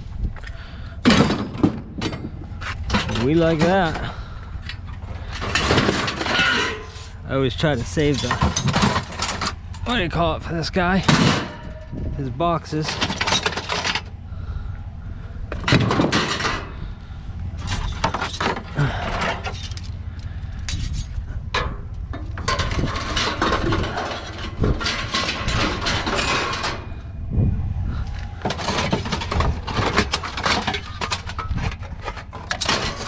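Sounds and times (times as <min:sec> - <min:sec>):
low rumble: 0:00.0 - 0:33.0
scrap metal clanking: 0:01.0 - 0:14.7, 0:15.5 - 0:27.2, 0:28.0 - 0:33.0.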